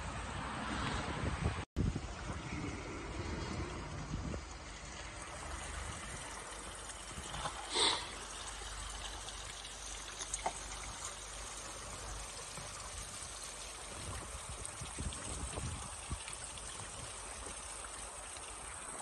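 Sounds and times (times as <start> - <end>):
water trickling under ice: 2.0 - 19.0.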